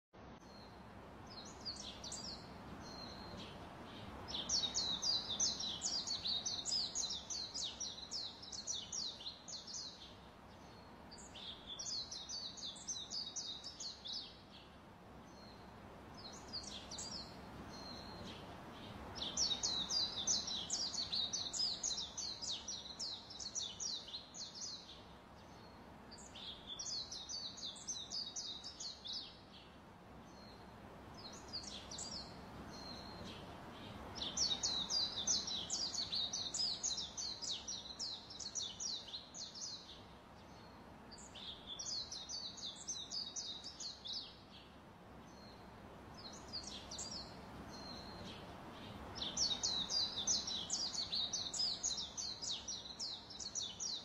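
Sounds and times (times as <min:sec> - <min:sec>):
soft steady hiss: 0:00.2 - 0:54.0
bird chirping trills: 0:00.3 - 0:54.0.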